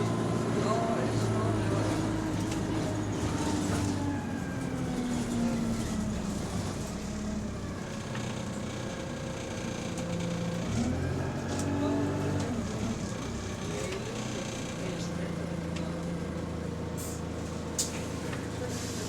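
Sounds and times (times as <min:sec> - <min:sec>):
bus diesel engine: 0:00.0 - 0:19.0.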